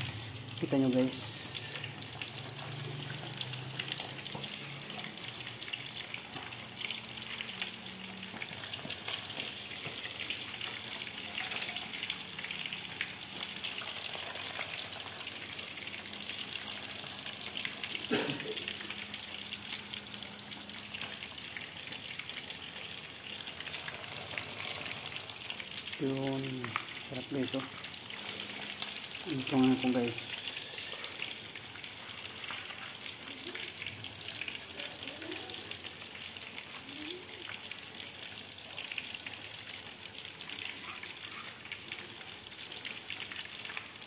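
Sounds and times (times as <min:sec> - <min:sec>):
chicken deep-frying in oil: 0:00.0 - 0:44.0.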